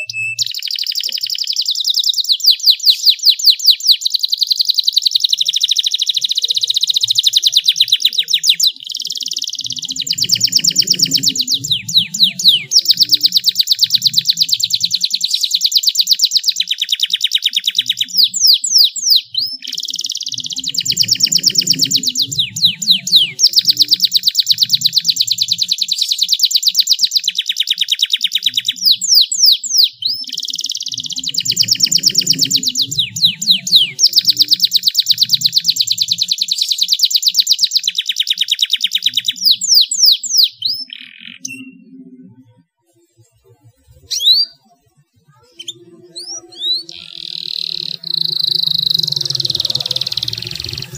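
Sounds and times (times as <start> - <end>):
canary singing trills: 0.0 - 42.3, 43.9 - 44.7, 45.3 - 50.9.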